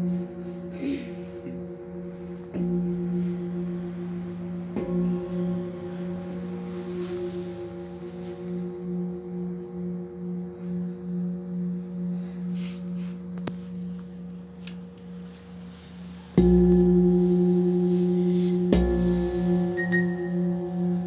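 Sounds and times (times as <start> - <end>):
singing bowl being struck: 0.0 - 15.2, 16.3 - 21.0
singing bowl ringing: 0.0 - 21.0.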